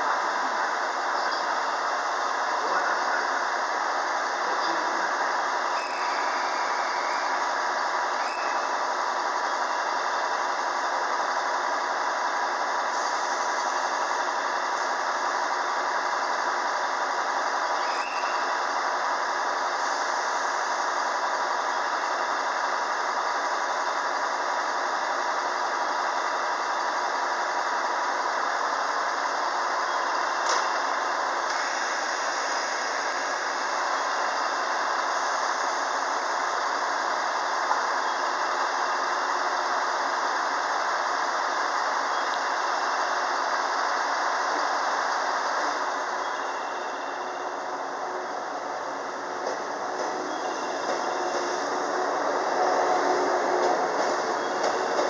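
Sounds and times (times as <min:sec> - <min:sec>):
electric train idling hum: 0:00.0 - 0:55.0.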